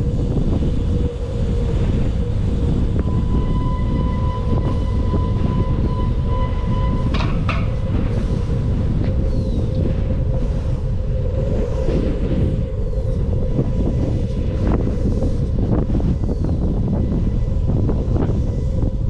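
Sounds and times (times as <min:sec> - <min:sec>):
thin high whine: 0:00.0 - 0:19.0
wind buffeting microphone: 0:00.0 - 0:19.0.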